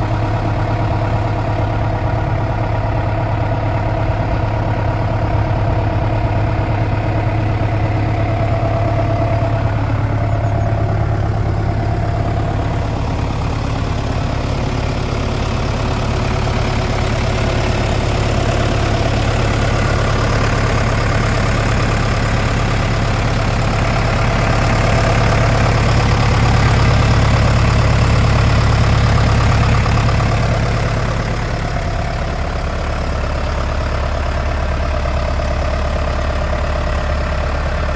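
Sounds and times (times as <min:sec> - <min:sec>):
tractor diesel engine idling: 0:00.0 - 0:37.9.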